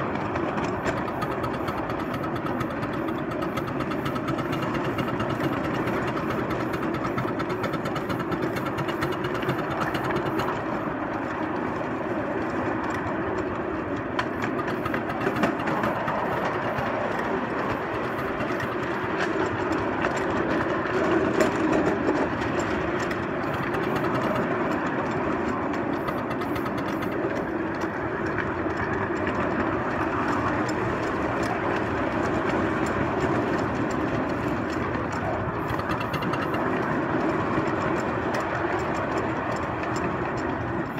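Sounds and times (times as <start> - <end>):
model locomotive running: 0.0 - 40.9.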